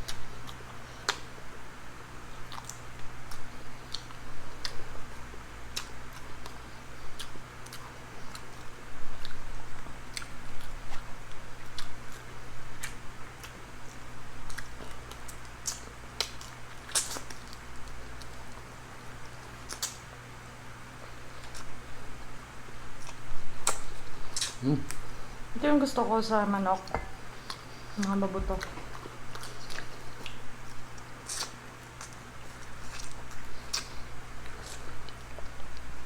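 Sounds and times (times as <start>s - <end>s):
low steady hum: 0.0s - 36.0s
person chewing: 2.3s - 5.1s, 5.7s - 20.1s, 21.0s - 21.8s, 22.9s - 25.4s, 26.9s - 36.0s.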